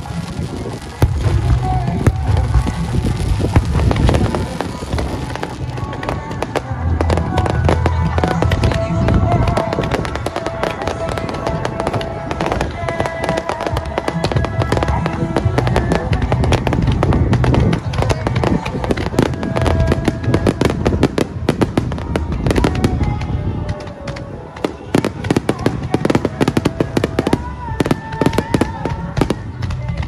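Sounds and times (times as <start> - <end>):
fireworks booming and crackling: 0.0 - 30.0
music playing: 0.0 - 30.0.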